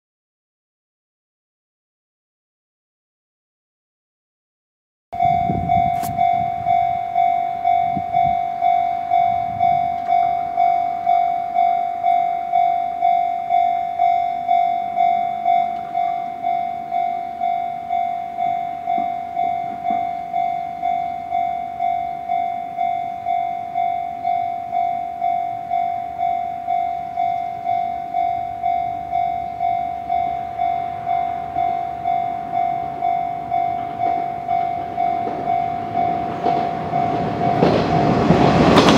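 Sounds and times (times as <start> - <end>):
level crossing bell ringing: 5.2 - 38.3.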